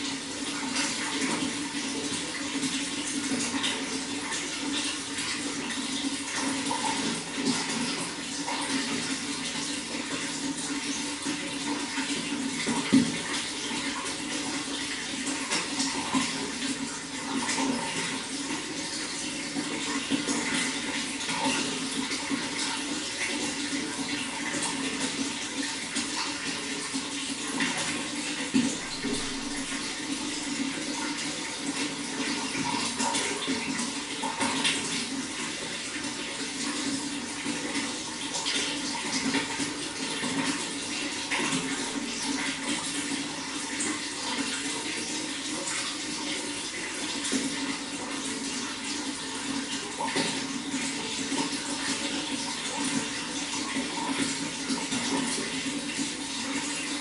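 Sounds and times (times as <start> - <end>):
water running: 0.0 - 57.0
water splashes: 0.0 - 57.0.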